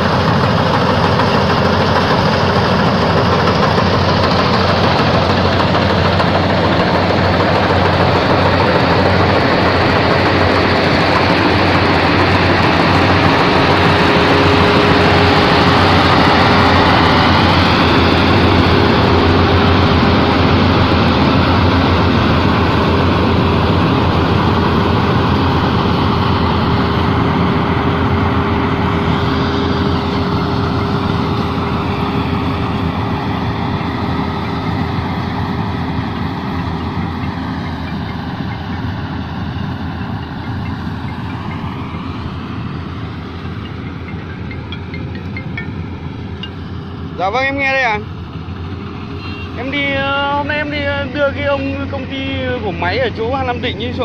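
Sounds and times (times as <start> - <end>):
combine harvester engine drone: 0.0 - 54.0
steady machine whine: 0.0 - 54.0.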